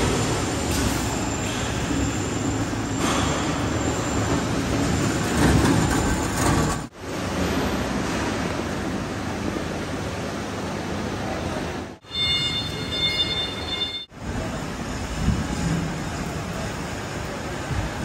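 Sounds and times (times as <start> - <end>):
factory machinery rumbling: 0.0 - 18.0.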